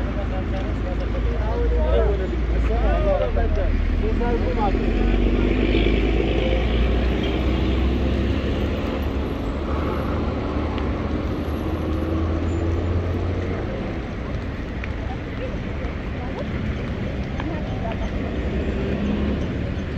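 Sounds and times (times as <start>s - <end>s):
road noise: 0.0s - 19.9s
vehicle engine humming: 0.0s - 19.9s.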